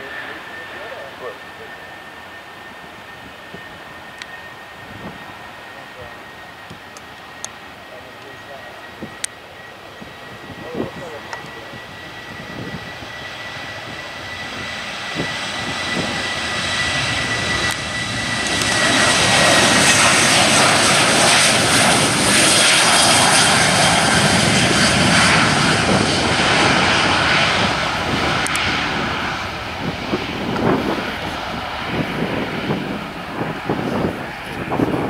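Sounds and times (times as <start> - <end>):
jet engines roaring past: 0.0 - 35.0.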